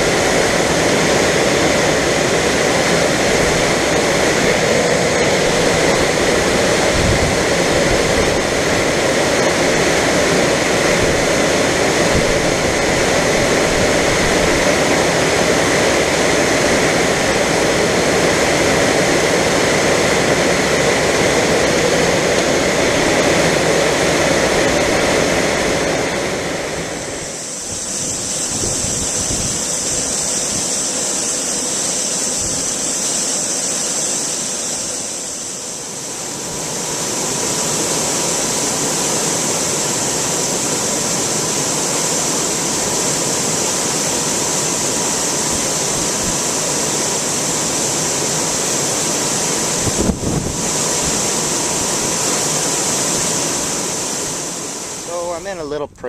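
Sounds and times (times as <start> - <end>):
machine running: 0.0 - 56.0.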